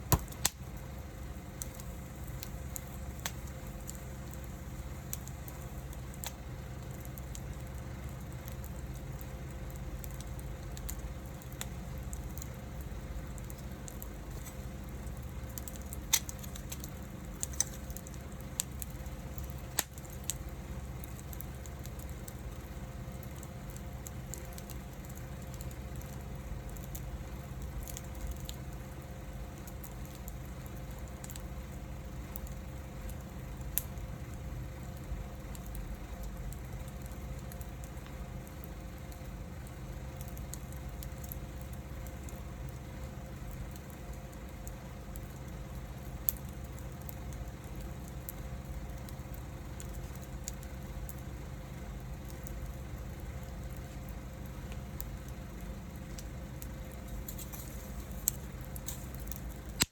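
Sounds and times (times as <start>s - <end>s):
firewood popping: 0.0s - 59.9s
wood fire rumble and hiss: 0.0s - 59.9s.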